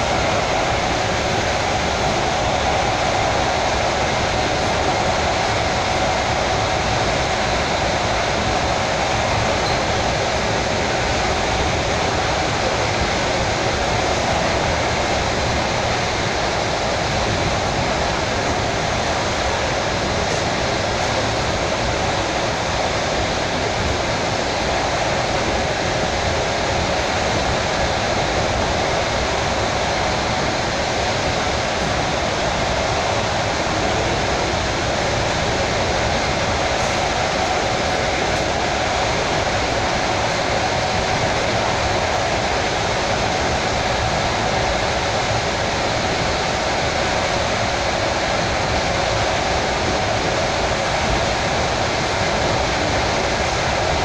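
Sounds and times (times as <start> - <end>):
electric train running: 0.0 - 54.0.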